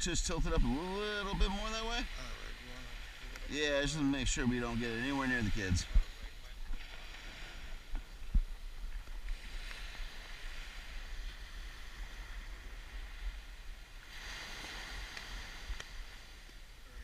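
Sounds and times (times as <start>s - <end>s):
surf washing on shore: 0.0s - 17.0s
wind rumbling on microphone: 0.0s - 17.0s.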